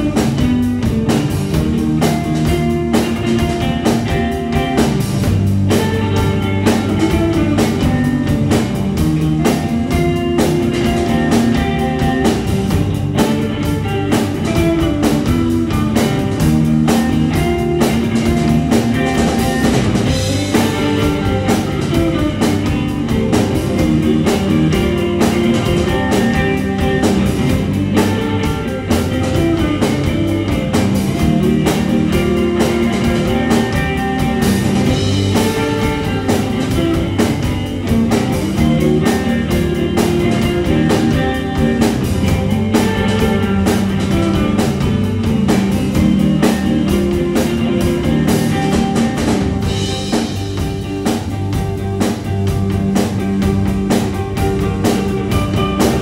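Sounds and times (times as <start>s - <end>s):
bass guitar: 0.0s - 56.0s
drum kit steady beat: 0.0s - 56.0s
electric guitars: 0.0s - 56.0s.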